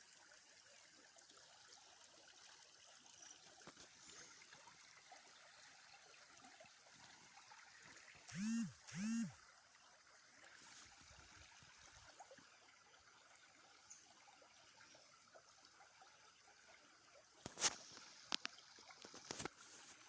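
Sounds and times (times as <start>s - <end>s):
stream trickling: 0.0s - 20.0s.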